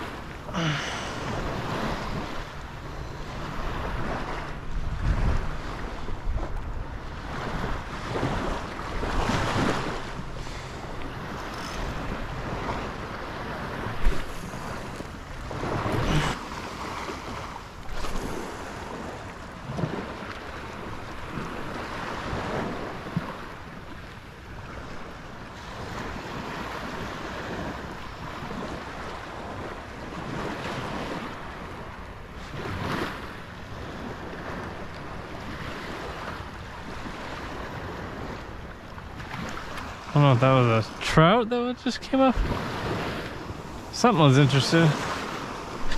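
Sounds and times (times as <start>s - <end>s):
wind buffeting microphone: 0.0s - 40.1s, 42.2s - 44.0s
small waves lapping: 0.0s - 45.9s.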